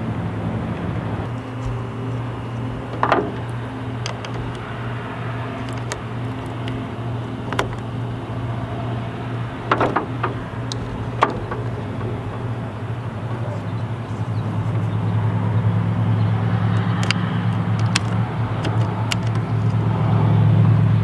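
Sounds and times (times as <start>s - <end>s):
low mechanical hum: 0.0s - 21.0s
sharp clicks and knocks: 1.2s - 15.0s, 16.5s - 20.1s.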